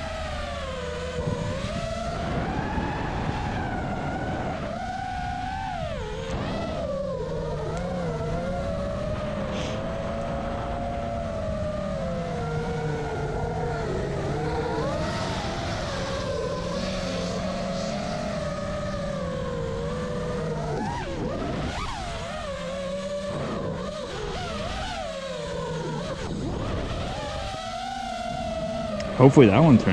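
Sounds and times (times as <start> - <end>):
quadcopter motors whining: 0.0 - 29.9.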